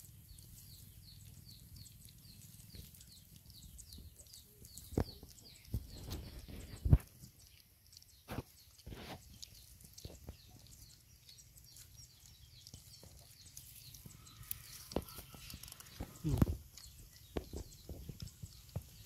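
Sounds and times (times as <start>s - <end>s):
puppies lapping and chewing: 0.0s - 19.0s
small birds chirping: 0.0s - 19.0s.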